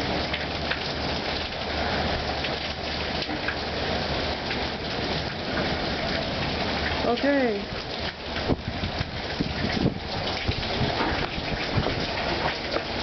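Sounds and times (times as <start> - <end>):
heavy rain hissing: 0.0 - 13.0
sharp rain taps: 0.0 - 13.0.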